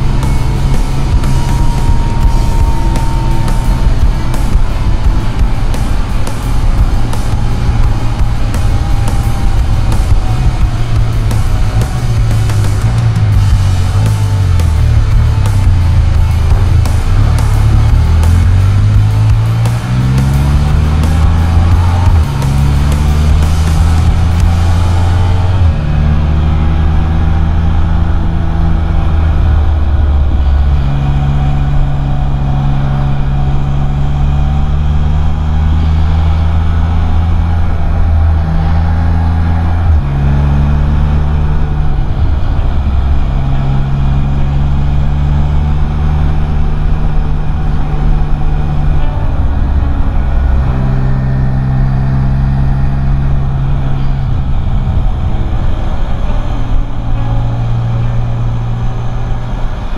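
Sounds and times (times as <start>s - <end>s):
three-wheeler engine running: 0.0s - 59.9s.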